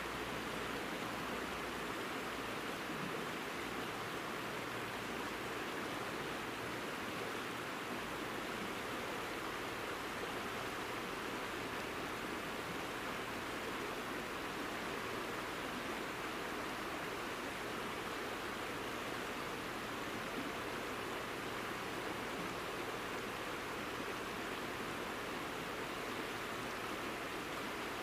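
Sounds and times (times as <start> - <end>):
mountain stream rushing: 0.0 - 28.0.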